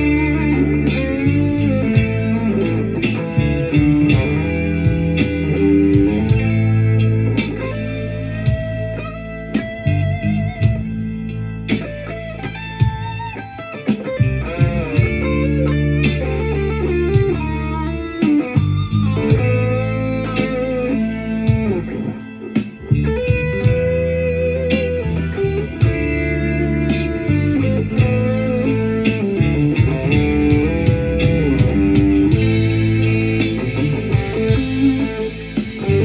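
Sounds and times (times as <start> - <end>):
bass notes: 0.0 - 36.0
electric guitar blues lead: 0.0 - 36.0
steady beat: 0.0 - 36.0.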